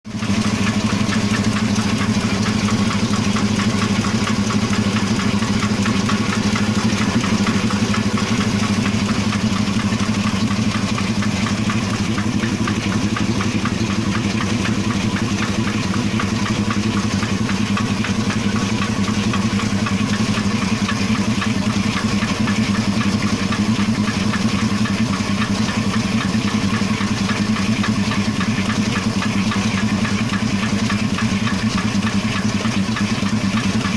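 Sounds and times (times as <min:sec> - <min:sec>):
car engine idling: 0:00.0 - 0:33.9
fast regular engine knock: 0:00.1 - 0:33.9.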